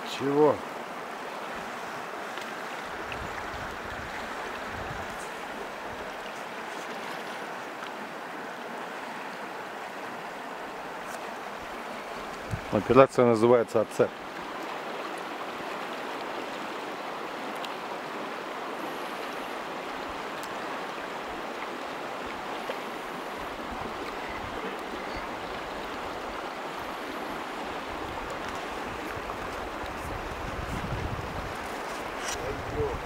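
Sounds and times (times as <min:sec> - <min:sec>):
river rushing over stones: 0:00.0 - 0:33.0.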